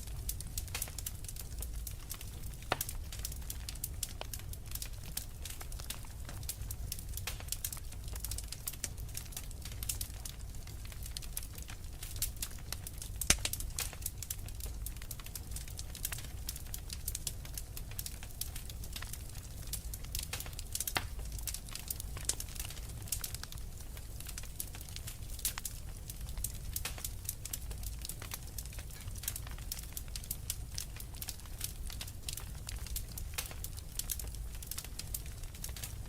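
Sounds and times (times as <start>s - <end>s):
low rumble of fire: 0.0s - 36.0s
wood fire crackling and popping: 0.0s - 36.0s.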